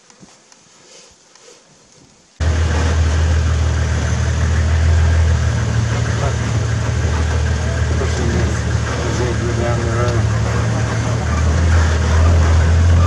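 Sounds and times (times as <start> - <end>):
vehicle engine running: 2.4 - 13.0.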